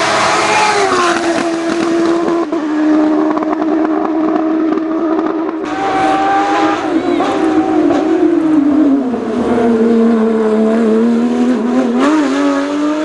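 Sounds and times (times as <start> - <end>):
race car engine revving high: 0.0 - 13.0.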